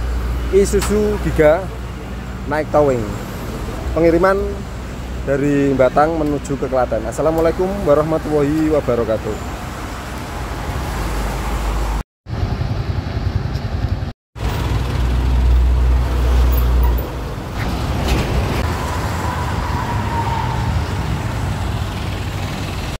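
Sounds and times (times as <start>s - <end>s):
road traffic low rumble: 0.0s - 23.0s.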